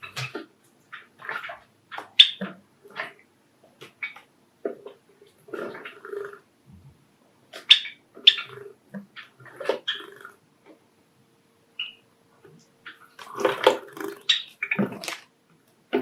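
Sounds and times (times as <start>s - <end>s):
sparrows chirping and clucking: 0.0s - 6.4s, 7.5s - 10.4s, 11.7s - 15.2s.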